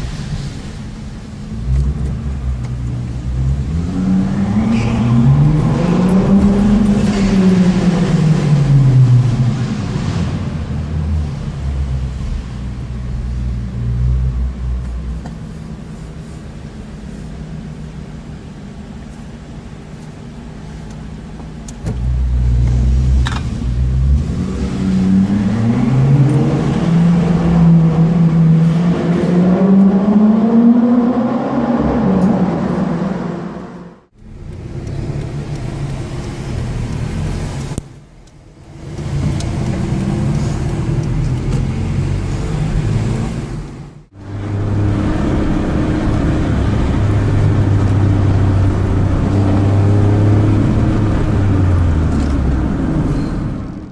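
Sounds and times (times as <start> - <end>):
car engine accelerating: 0.0 - 15.3, 20.8 - 53.9.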